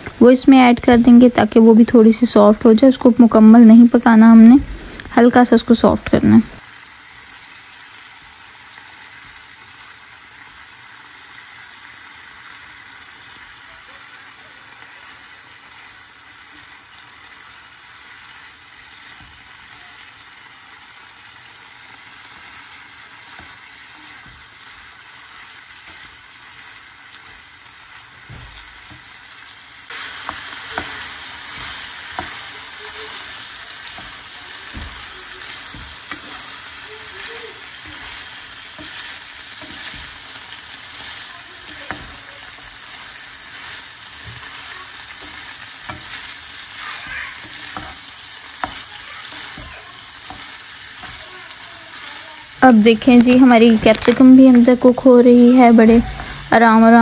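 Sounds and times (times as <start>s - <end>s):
chicken sizzling in oil: 0.0s - 57.0s.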